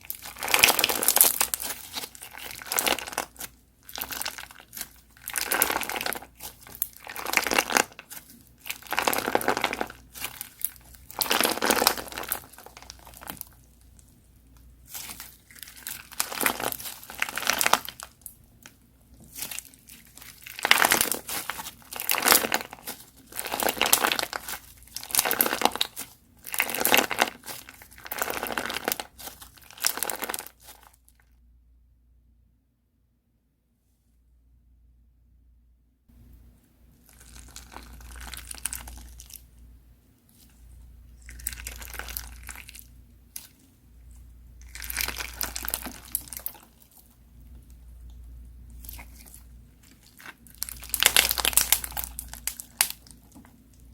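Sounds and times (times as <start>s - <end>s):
crunchy slime squished by hand: 0.0s - 31.1s, 37.0s - 39.6s, 40.2s - 53.9s.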